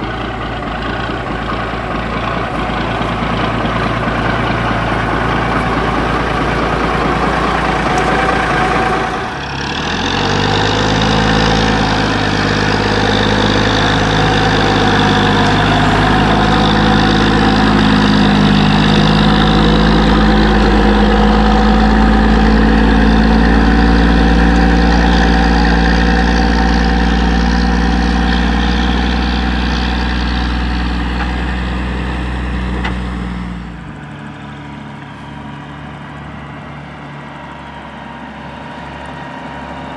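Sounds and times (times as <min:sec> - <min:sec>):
garbage truck diesel engine: 0:00.0 - 0:39.9.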